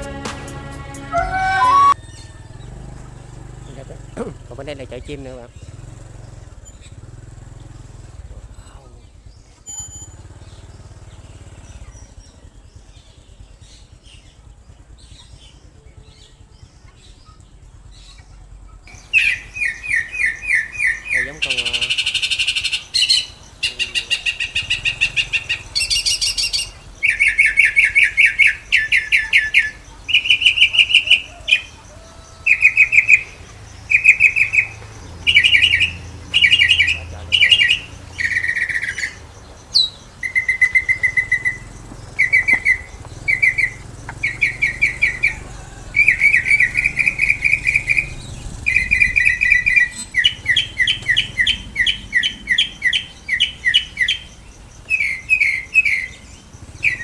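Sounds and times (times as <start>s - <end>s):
birds chattering loudly: 1.1s - 9.6s, 10.2s - 57.0s.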